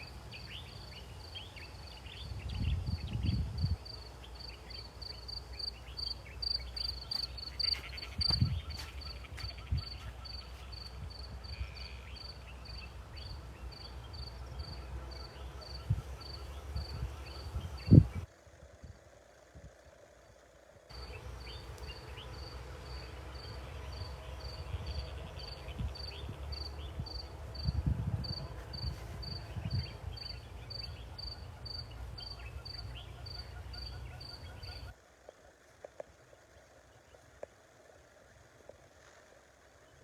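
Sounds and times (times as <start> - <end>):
cricket chirping: 0.0 - 40.0.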